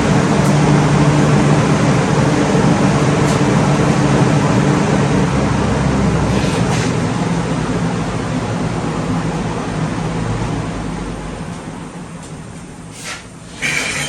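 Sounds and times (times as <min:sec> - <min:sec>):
exhaust fan humming and whooshing: 0:00.0 - 0:14.0.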